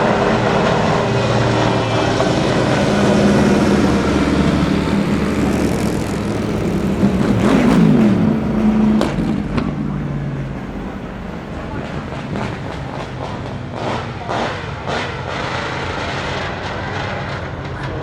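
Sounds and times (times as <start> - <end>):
racing car engines: 0.0 - 18.0.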